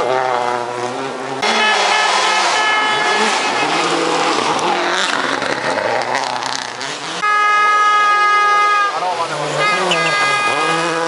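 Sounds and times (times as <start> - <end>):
rally car engines revving: 0.0 - 11.0.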